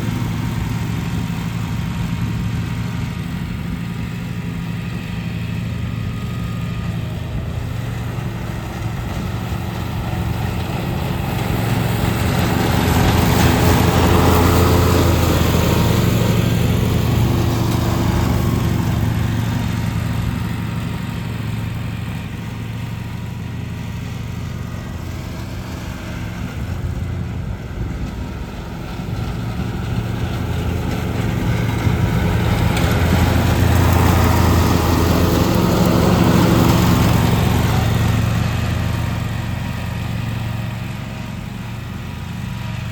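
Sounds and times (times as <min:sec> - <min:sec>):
lawn mower engine running: 0:00.0 - 0:42.9.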